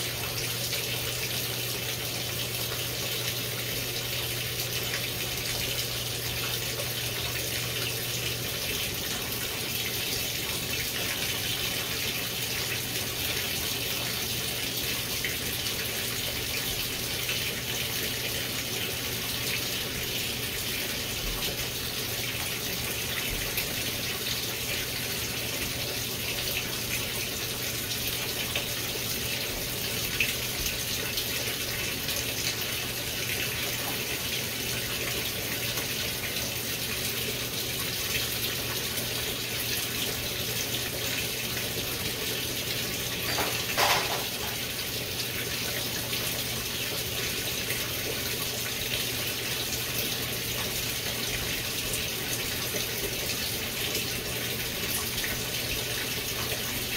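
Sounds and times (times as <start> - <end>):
water filling washer tub: 0.0 - 56.9.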